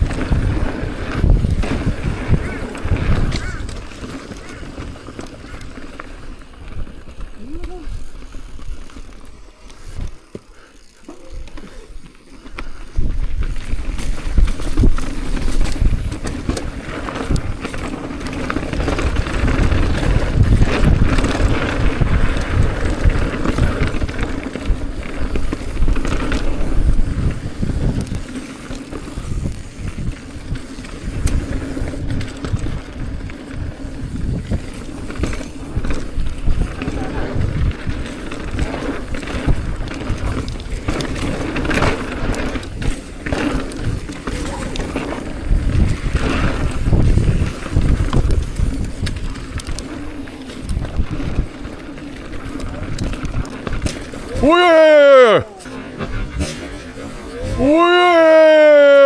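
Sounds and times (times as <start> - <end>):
bike knocking and rattling: 0.0 - 59.0
bike tyre rumble on dirt: 0.0 - 59.0.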